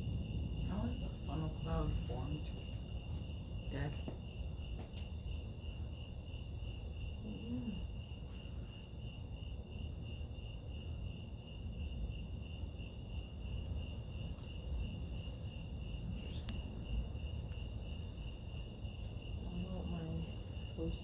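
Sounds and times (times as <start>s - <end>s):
crickets chirping: 0.0s - 21.0s
low background rumble: 0.0s - 21.0s.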